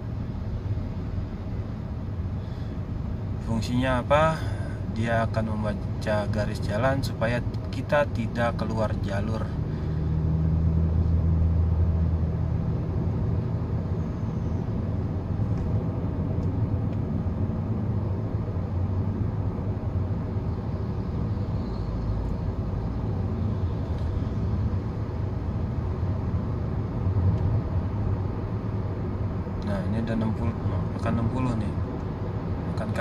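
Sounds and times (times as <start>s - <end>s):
car engine and tyre hum: 0.0s - 33.0s.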